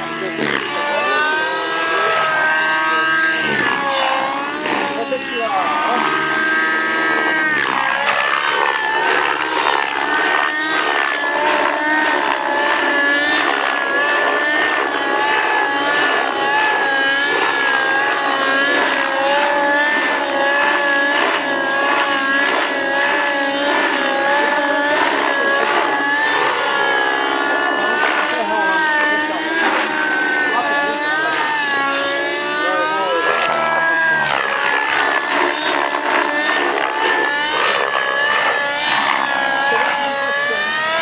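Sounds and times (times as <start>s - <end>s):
model helicopter rotor whine: 0.0s - 41.0s.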